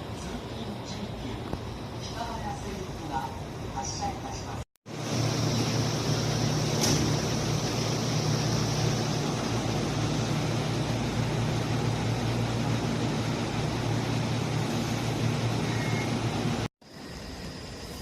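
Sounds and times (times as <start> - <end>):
electric train rumble and hum: 0.0 - 18.0.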